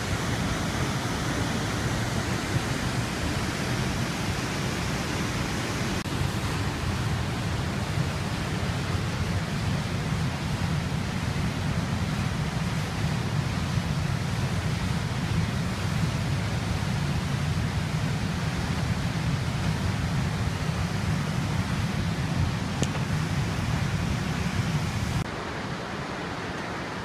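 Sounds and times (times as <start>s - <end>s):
running water rushing: 0.0s - 27.0s.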